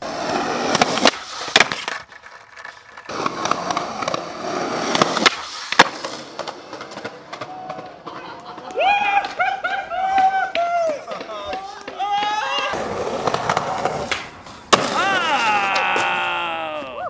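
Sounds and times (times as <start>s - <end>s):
skateboard wheels rolling on asphalt: 0.0s - 16.6s
skateboard clacks: 0.4s - 16.2s.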